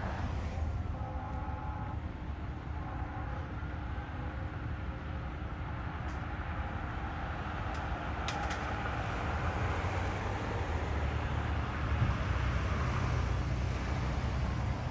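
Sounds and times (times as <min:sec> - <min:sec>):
fire truck engine rumble: 0:00.0 - 0:14.9.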